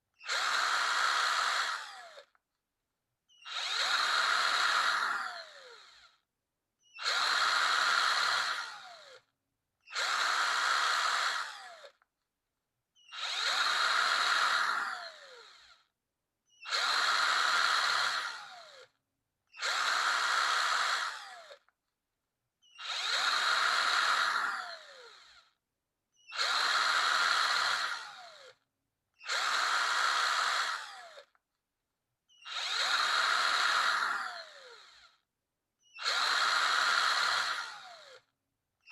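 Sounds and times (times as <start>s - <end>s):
power drill whining: 0.2s - 2.4s, 3.3s - 6.2s, 6.8s - 12.0s, 13.0s - 15.9s, 16.5s - 21.8s, 22.6s - 31.4s, 32.3s - 38.9s.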